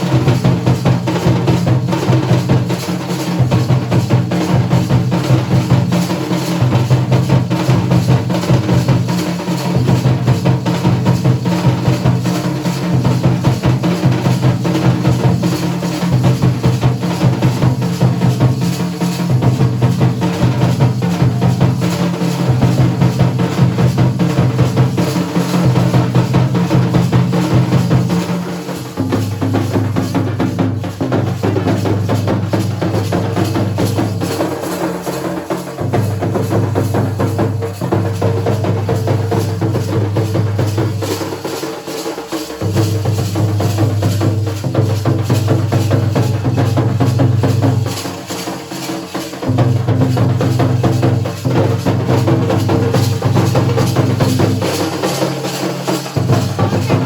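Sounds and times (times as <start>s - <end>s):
drums in fast rhythm: 0.0s - 57.0s.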